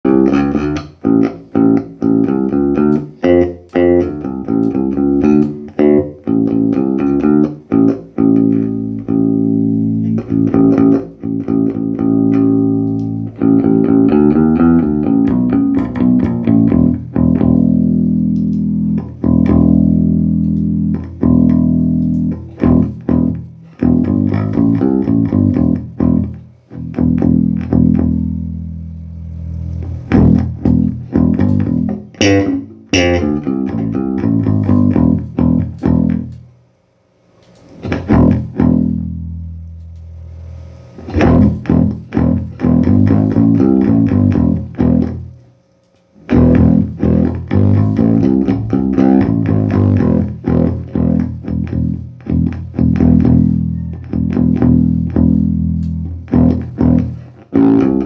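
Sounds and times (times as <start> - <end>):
electric bass guitar plucked notes: 0.0 - 36.6, 37.8 - 45.4, 46.2 - 58.0.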